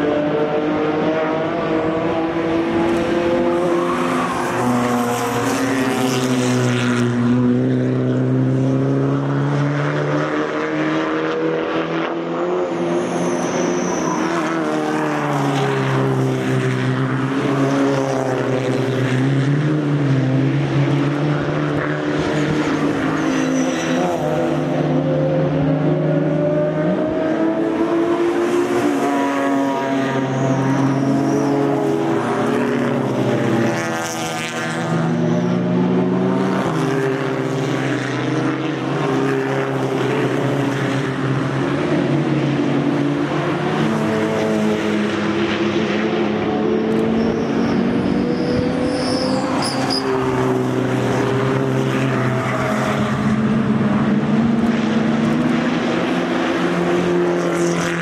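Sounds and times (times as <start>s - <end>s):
racing cars passing at high revs: 0.0s - 58.0s.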